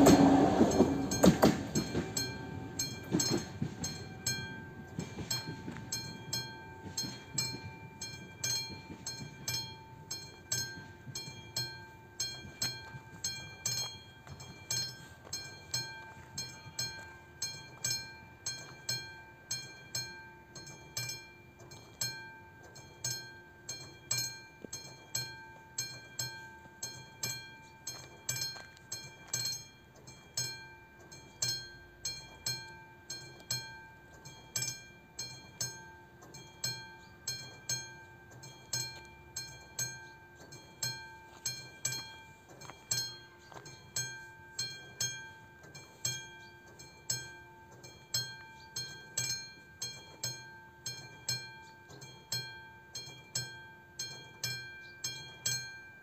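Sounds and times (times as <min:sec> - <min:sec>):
level crossing bell ringing: 0:00.0 - 0:56.0.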